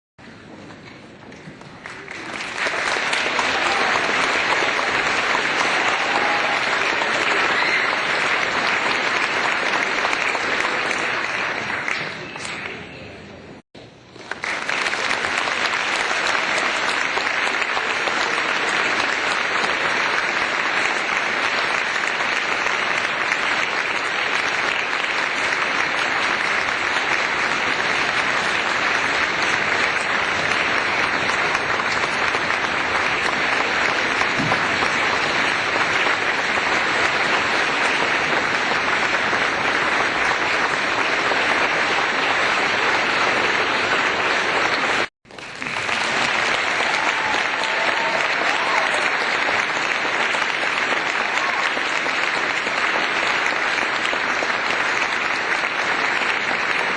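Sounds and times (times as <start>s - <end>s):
crowd applauding: 1.3s - 13.2s, 14.1s - 56.9s.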